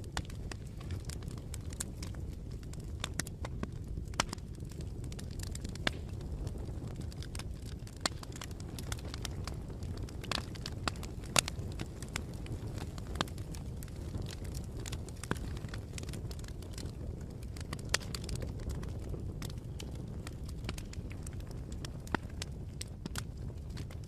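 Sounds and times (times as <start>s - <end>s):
bonfire crackling and popping: 0.0s - 24.0s
low rumble of flames: 0.0s - 24.0s.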